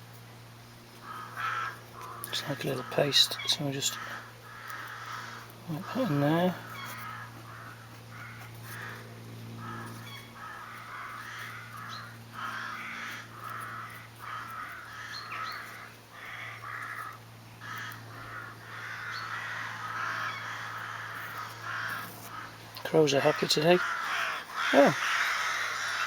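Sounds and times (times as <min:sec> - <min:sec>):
steady low hum: 0:00.0 - 0:26.0
crows cawing: 0:00.9 - 0:26.0.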